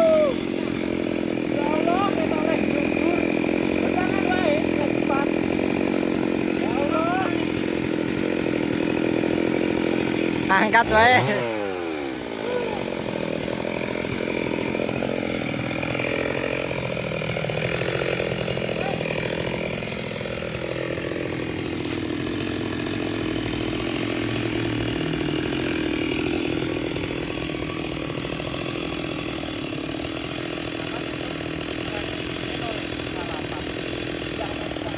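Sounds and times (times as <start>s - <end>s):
chainsaw running: 0.0s - 34.9s.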